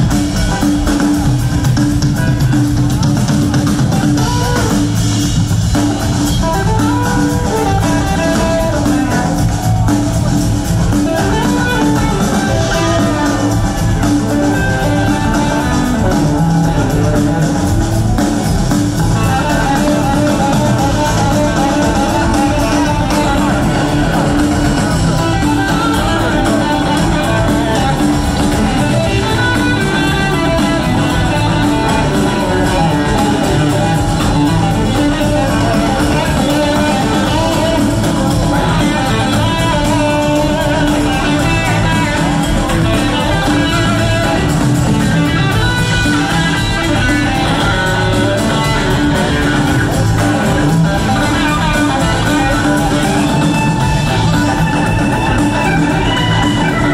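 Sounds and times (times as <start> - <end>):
electric guitar: 0.0 - 56.9
live rock band playing: 0.0 - 56.9.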